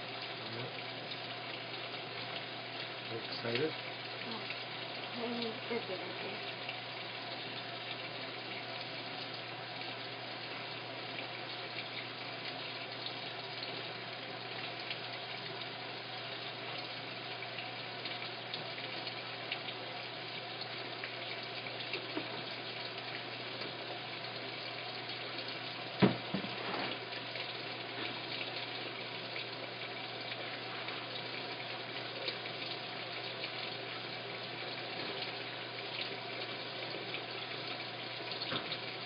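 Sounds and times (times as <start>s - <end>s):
water running into drum: 0.0s - 39.0s.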